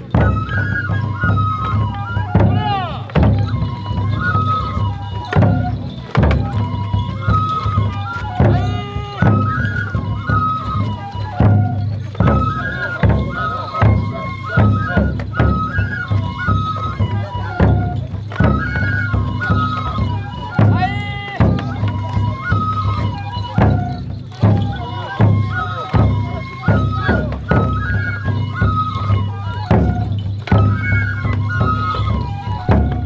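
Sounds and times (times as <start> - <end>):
high flute melody: 0.0 - 33.0.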